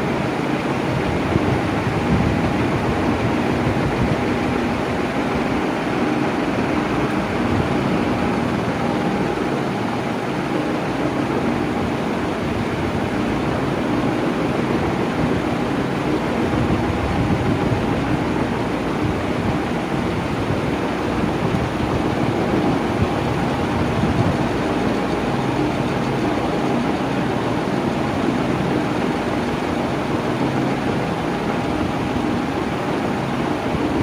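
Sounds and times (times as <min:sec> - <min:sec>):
electric fan running: 0:00.0 - 0:34.0.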